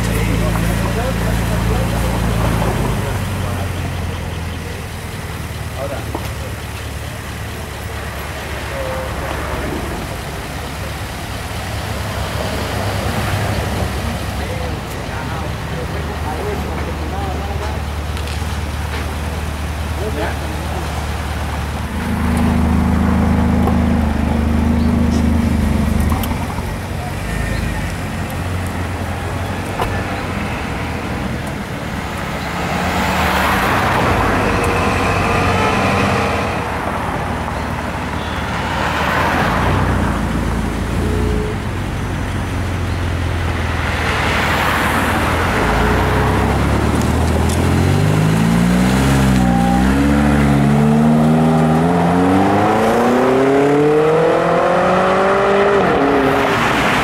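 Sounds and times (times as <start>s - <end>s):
car engine idling and accelerating: 0.0s - 57.0s.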